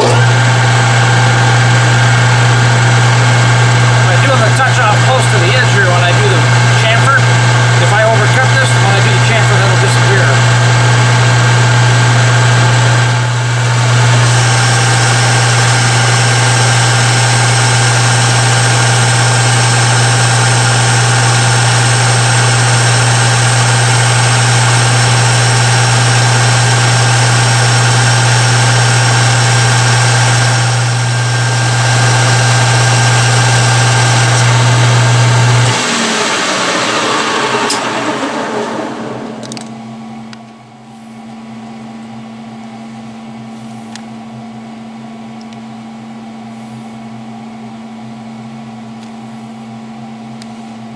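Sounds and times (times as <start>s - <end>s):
metal lathe motor hum: 0.0s - 44.4s.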